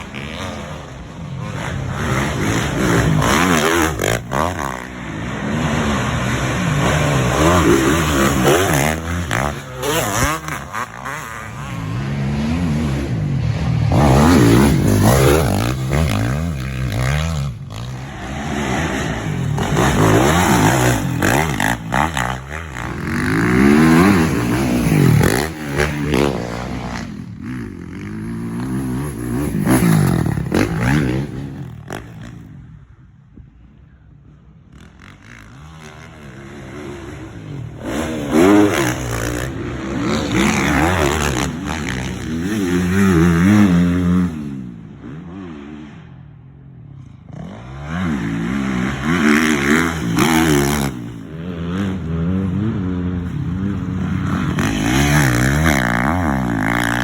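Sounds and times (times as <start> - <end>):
motocross bike engine revving: 0.0 - 32.6, 34.7 - 46.3, 47.0 - 57.0.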